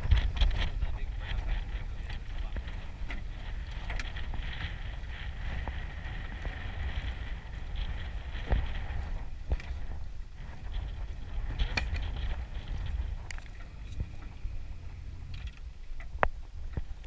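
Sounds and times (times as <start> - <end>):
boat engine rumble: 0.0 - 17.0
wind buffeting microphone: 0.0 - 17.0.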